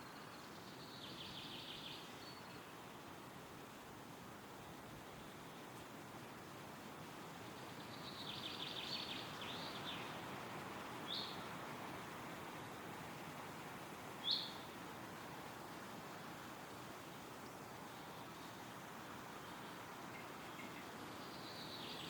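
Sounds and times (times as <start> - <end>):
wind rustling through trees: 0.0 - 22.0.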